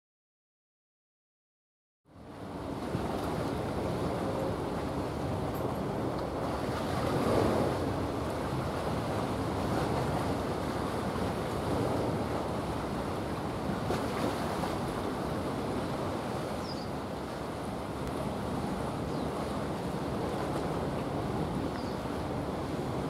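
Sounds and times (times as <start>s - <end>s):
waves washing: 2.2s - 23.0s
wind on microphone: 2.2s - 23.0s.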